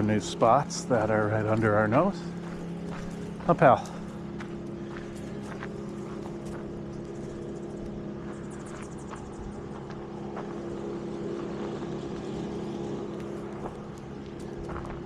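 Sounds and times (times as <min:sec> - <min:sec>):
wood chipper engine drone: 0:00.0 - 0:15.0.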